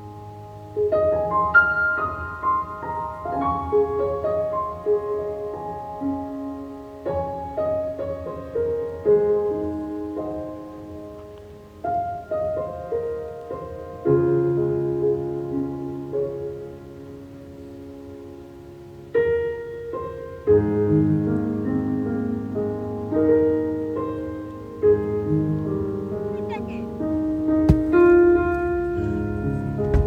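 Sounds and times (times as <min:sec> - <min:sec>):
gentle piano melody: 0:00.0 - 0:30.0.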